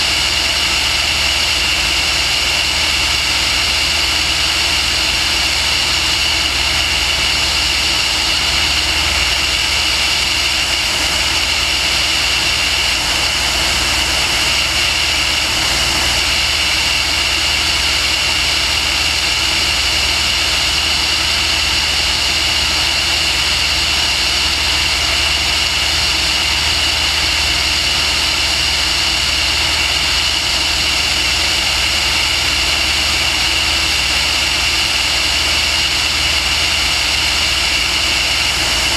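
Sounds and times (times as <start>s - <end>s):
aircraft motor and propeller: 0.0s - 38.9s.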